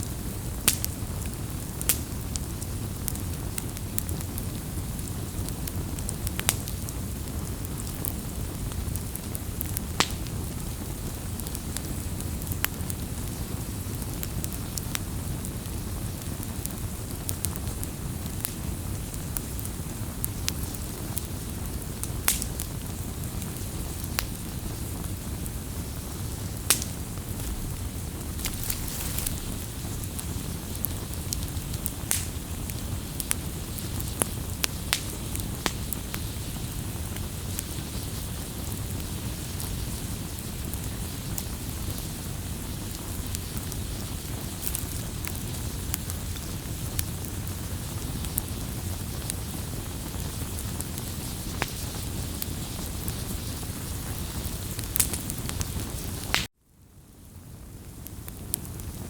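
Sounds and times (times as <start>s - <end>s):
campfire flame rushing: 0.0s - 56.5s
burning wood crackling and popping: 0.0s - 59.0s.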